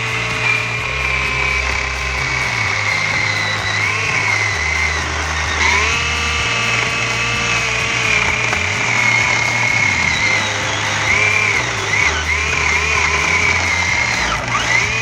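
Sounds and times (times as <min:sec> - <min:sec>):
background music with bass line: 0:00.0 - 0:15.0
electric chainsaw cutting wood: 0:00.0 - 0:15.0.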